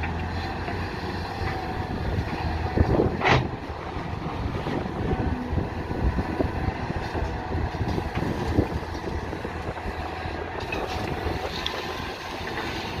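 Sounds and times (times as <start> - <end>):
diesel engine of earthmoving machine: 0.0 - 13.0
wind buffeting microphone: 1.2 - 13.0.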